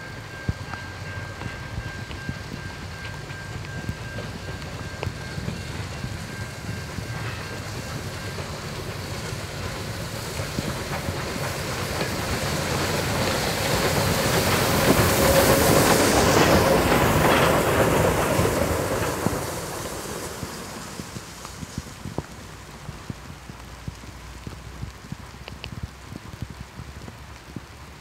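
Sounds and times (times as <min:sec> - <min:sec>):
steam locomotive passing on rails: 0:00.0 - 0:28.0.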